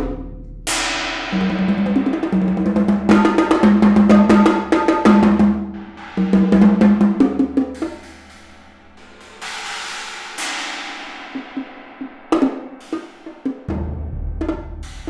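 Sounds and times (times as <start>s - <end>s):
suspended cymbal strikes ringing: 0.7s - 14.2s.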